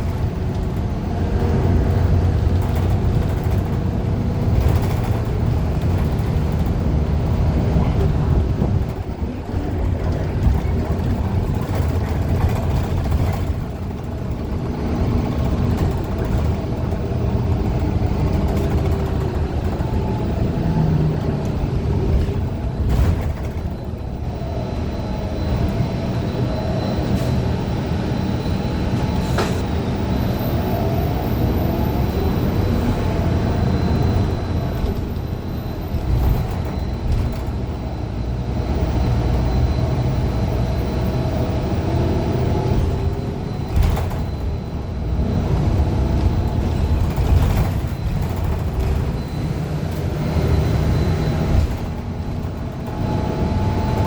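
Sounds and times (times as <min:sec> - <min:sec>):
bus engine and transmission: 0:00.0 - 0:54.0
road rumble: 0:00.0 - 0:54.0.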